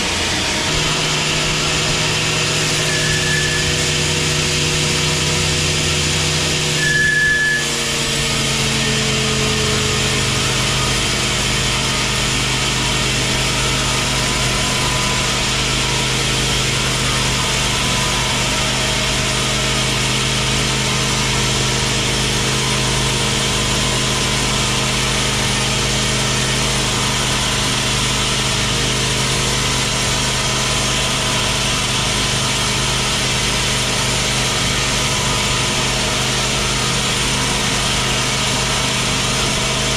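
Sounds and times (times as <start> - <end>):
band saw humming: 0.0 - 39.9
high squeal: 0.0 - 39.9.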